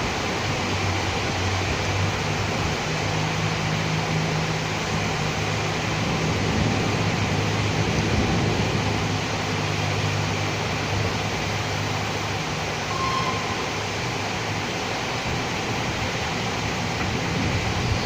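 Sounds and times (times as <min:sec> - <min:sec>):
rain hissing on street: 0:00.0 - 0:18.0.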